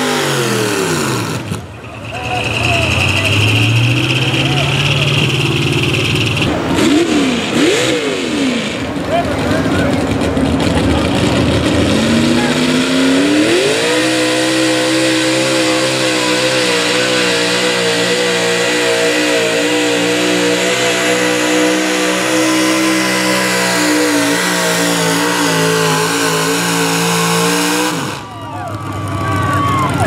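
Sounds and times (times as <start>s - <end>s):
truck engine at high revs: 0.0s - 30.0s.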